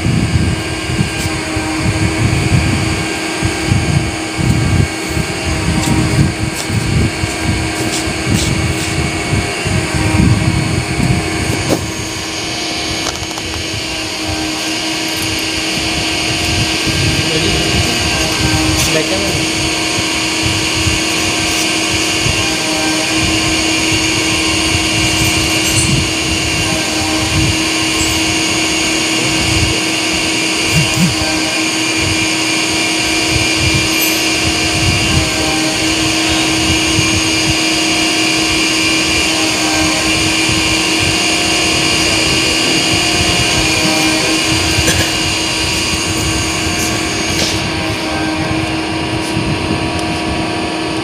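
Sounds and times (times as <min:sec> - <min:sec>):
high machine whines: 0:00.0 - 0:51.0
lathe machine hum: 0:00.0 - 0:51.0.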